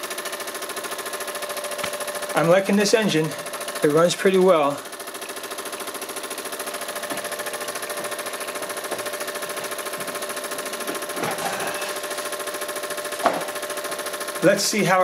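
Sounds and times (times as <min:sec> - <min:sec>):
toy steam engine chuffing: 0:00.0 - 0:15.0.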